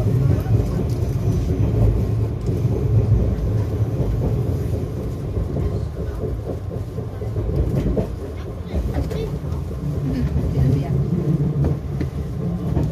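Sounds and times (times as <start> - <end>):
train wheels rumbling: 0.0 - 12.9.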